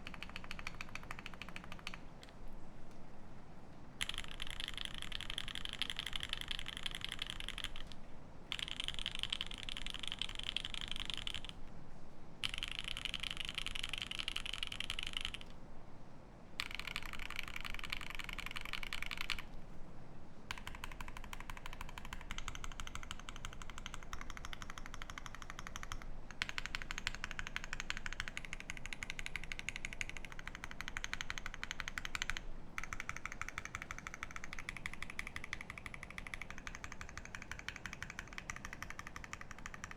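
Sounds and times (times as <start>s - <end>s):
fast typing on mechanical keyboard: 0.0s - 2.4s, 4.0s - 11.6s, 12.4s - 15.5s, 16.6s - 19.6s, 20.5s - 39.9s.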